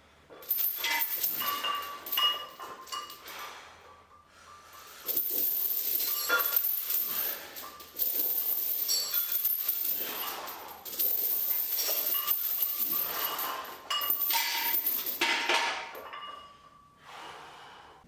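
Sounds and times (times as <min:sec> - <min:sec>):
metal gym weights clanking: 0:00.6 - 0:03.6, 0:04.7 - 0:16.8.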